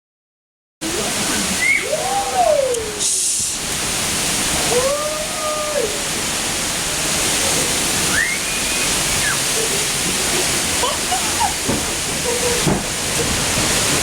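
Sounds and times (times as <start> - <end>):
heavy rain: 0.8 - 14.0
wind howling: 1.2 - 14.0.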